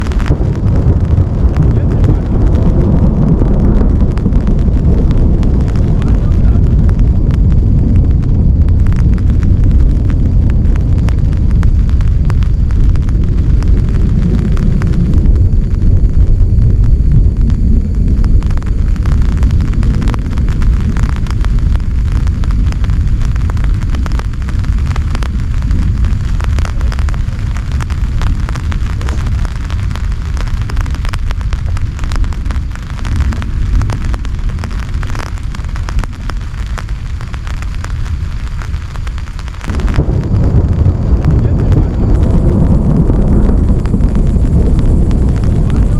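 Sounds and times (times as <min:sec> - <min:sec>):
deep rumble: 0:00.0 - 0:45.9
heavy rain pouring: 0:00.0 - 0:45.9.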